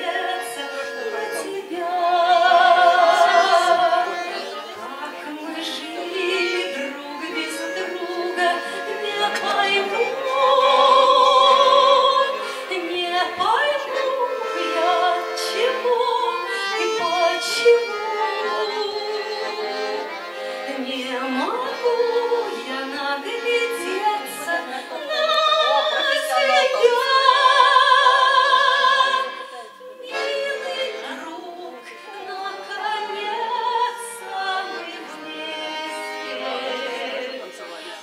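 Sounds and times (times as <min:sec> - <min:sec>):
woman singing into microphone: 0:00.0 - 0:04.2, 0:04.9 - 0:20.0, 0:20.7 - 0:35.6
instrumental accompaniment: 0:00.0 - 0:38.0.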